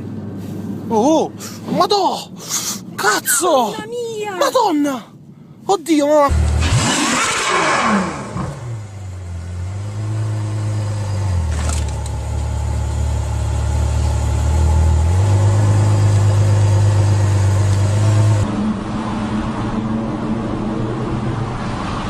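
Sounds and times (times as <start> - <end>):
car engine humming: 0.0 - 22.0.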